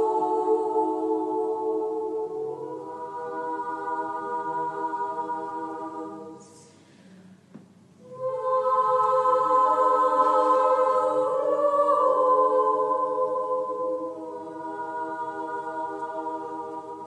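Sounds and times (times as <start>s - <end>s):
choir singing held chords: 0.0s - 6.8s, 8.0s - 17.0s.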